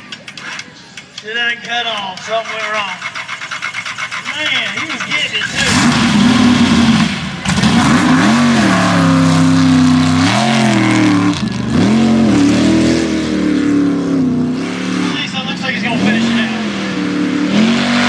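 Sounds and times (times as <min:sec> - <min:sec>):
truck engine revving hard: 0:02.8 - 0:18.0.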